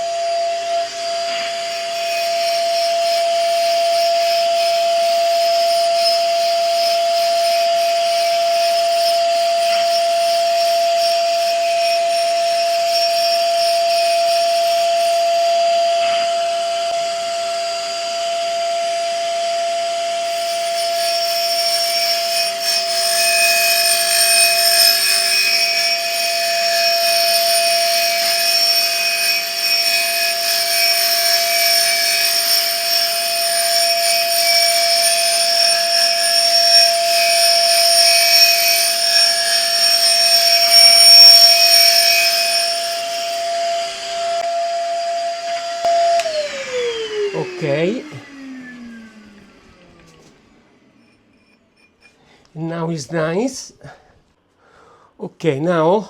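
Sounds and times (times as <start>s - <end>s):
grinding hiss: 0.0s - 16.9s, 20.2s - 48.6s
grinding wheel whine: 0.0s - 52.3s.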